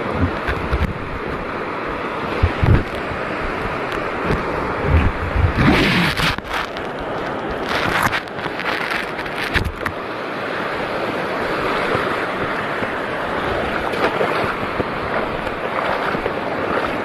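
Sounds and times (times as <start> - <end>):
wind noise on microphone: 0.0 - 10.0, 10.6 - 17.0
sea water sloshing: 0.0 - 17.0
water splashes: 0.0 - 17.0.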